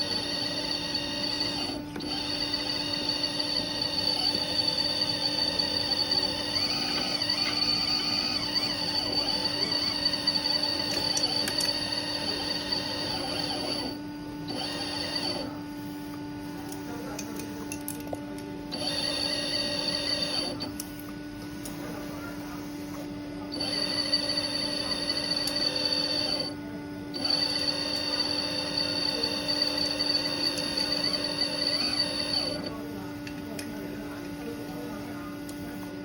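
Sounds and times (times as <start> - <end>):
hydraulic pump whining: 0.0 - 22.1, 22.7 - 34.4.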